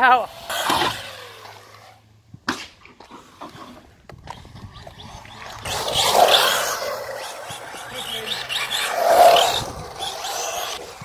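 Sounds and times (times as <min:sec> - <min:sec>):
toy truck motor and tyres rushing: 0:00.0 - 0:02.1, 0:03.0 - 0:11.0.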